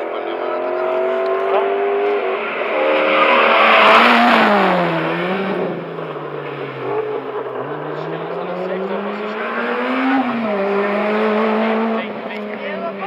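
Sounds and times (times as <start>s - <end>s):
race car engines revving: 0.0s - 13.0s
race car passing by: 0.0s - 13.0s.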